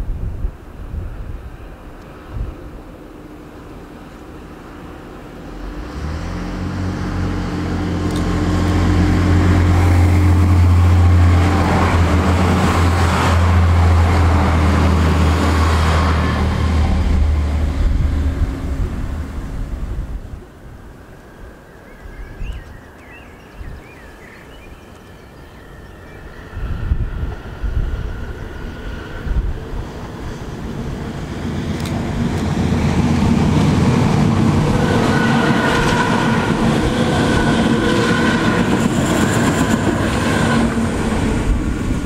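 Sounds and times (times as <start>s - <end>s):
passenger train passing: 0.0s - 42.0s.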